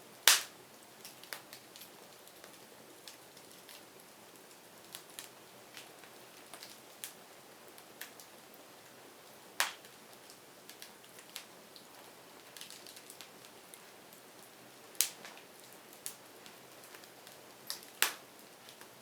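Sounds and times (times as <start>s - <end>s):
faint steady hiss: 0.0s - 19.0s
firewood crackling and popping: 0.0s - 19.0s.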